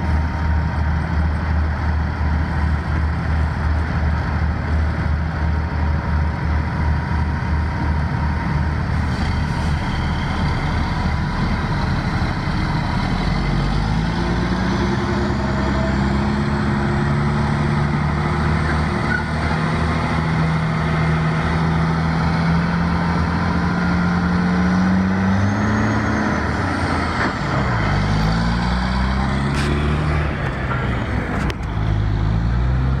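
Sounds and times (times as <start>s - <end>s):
truck diesel engine accelerating: 0.0s - 33.0s.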